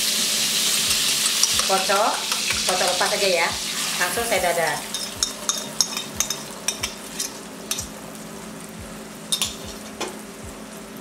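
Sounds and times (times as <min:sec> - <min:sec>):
egg sizzling in butter: 0:00.0 - 0:11.0.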